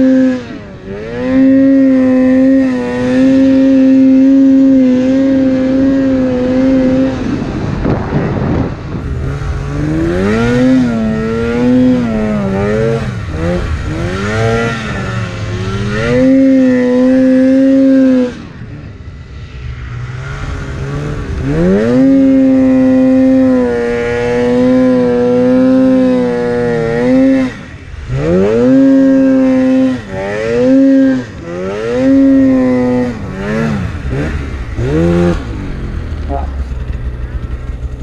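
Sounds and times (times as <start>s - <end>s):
snowmobile engine revving: 0.0s - 38.0s.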